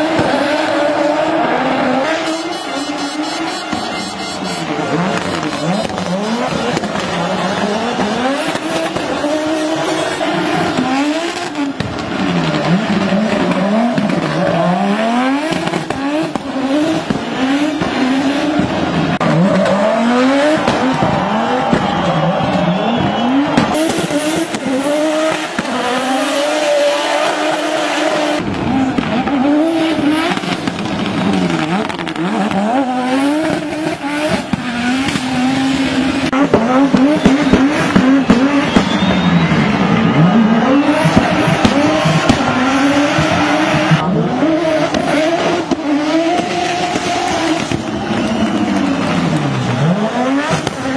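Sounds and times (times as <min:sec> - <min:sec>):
rally car engine revving: 0:00.0 - 0:50.9.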